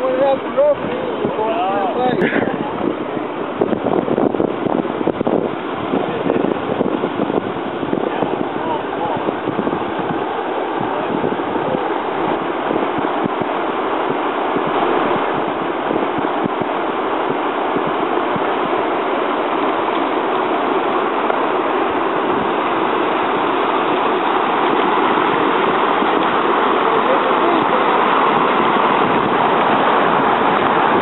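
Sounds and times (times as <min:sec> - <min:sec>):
muddy water gushing: 0:00.0 - 0:31.0.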